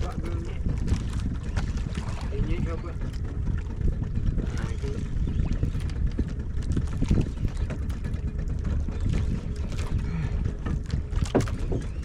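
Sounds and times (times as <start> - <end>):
rumbling wind: 0.0 - 12.0
water noise: 0.0 - 12.0.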